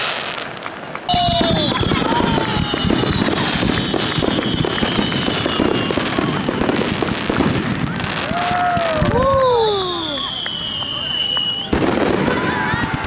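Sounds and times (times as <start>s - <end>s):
fireworks bangs and crackle: 0.0s - 13.0s
falling firework whistle: 1.1s - 13.0s.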